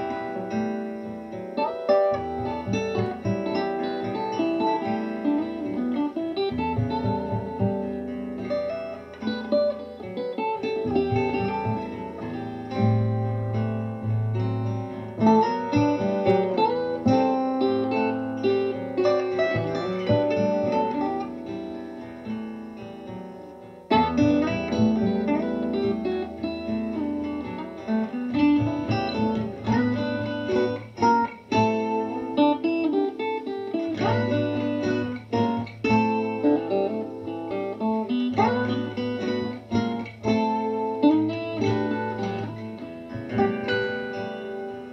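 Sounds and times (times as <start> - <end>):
plucked guitar music: 0.0 - 44.9.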